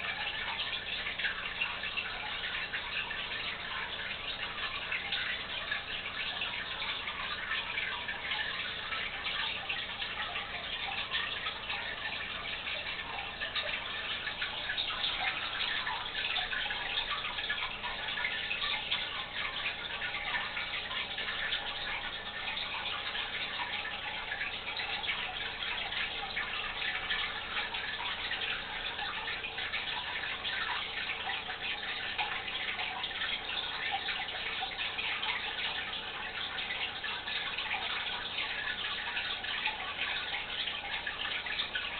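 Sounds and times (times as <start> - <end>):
aquarium water trickling: 0.0 - 41.9.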